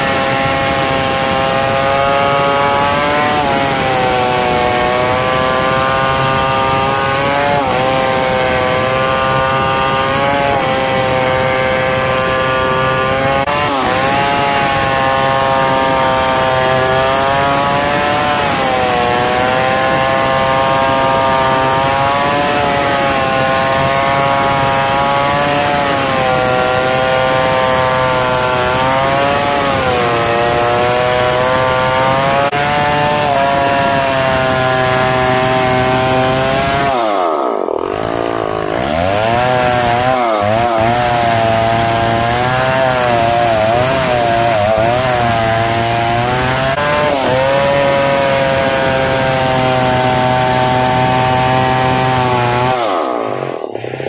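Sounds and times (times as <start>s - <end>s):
chainsaw cutting through log: 0.0s - 54.0s.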